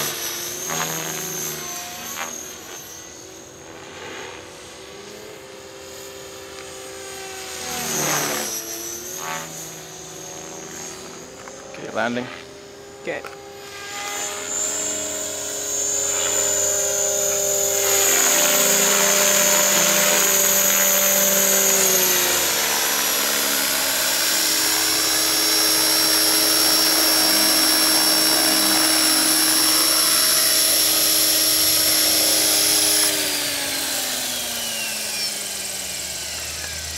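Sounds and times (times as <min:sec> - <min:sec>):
helicopter rotor noise: 0:00.0 - 0:36.9
model helicopter motor whine: 0:00.0 - 0:36.9.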